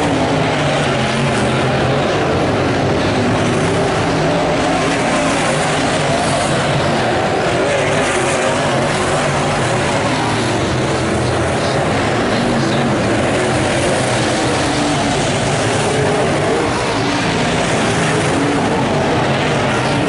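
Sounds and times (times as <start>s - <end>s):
race car engines roaring: 0.0s - 20.0s.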